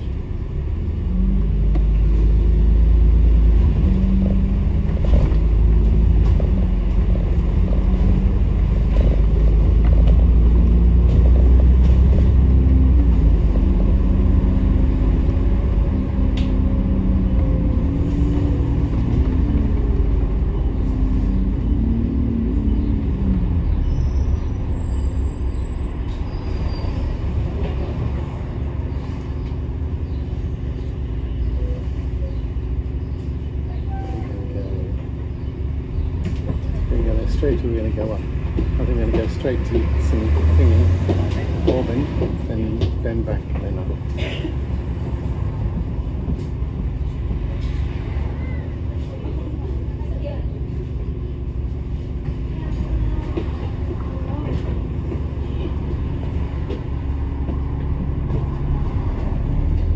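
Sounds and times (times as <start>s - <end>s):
bus engine: 0.0s - 59.9s
road rumble: 0.0s - 59.9s.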